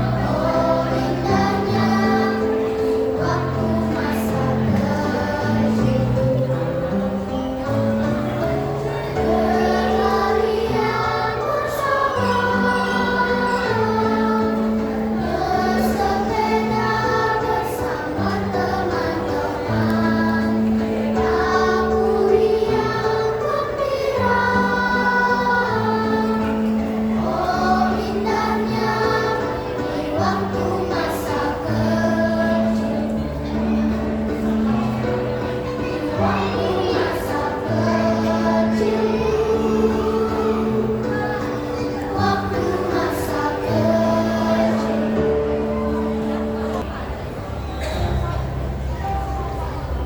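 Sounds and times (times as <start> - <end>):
choir singing in harmony: 0.0 - 46.9.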